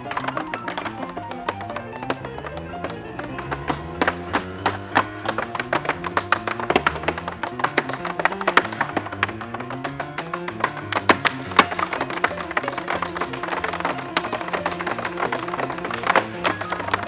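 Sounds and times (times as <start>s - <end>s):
music: 0.0s - 17.0s
tap shoes clicking on floor: 0.0s - 17.0s.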